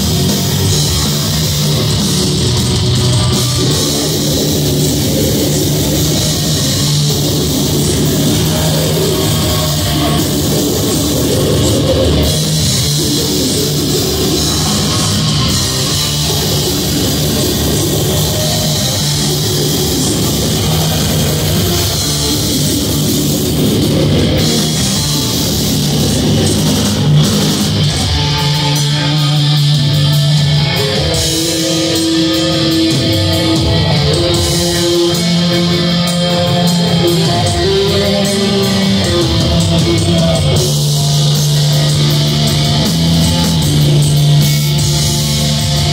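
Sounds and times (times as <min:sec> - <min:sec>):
live metal band playing: 0:00.0 - 0:45.9.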